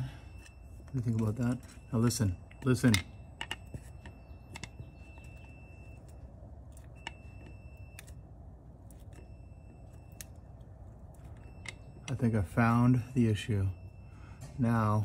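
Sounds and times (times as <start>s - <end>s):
multimeter continuity beep: 0.0s - 15.0s.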